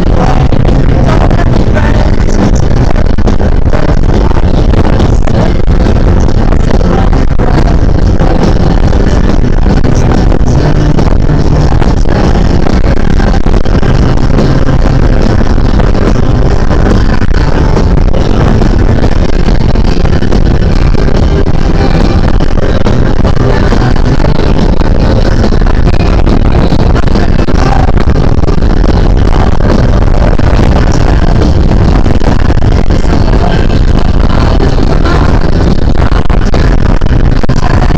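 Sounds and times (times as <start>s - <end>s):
wind rumble on microphone: 0.0s - 37.9s.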